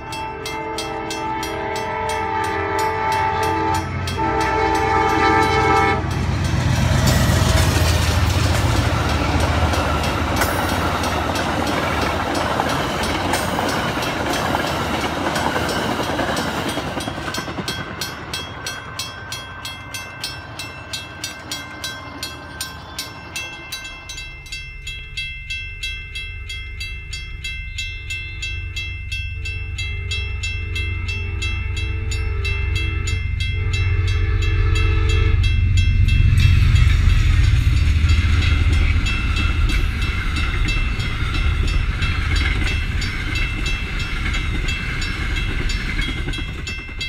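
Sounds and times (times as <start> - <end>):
crossing warning bell ringing: 0.0 - 47.0
passenger train speeding past: 0.0 - 47.0.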